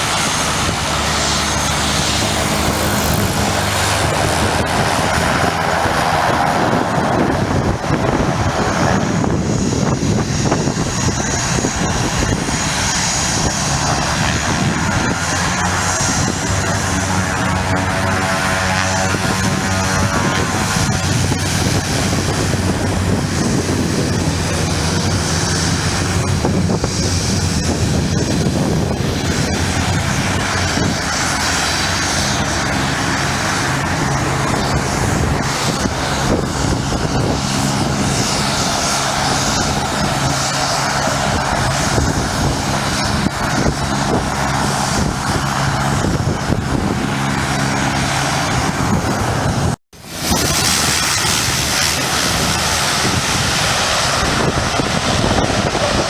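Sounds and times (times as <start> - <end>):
propeller aircraft engine droning: 0.0 - 56.0.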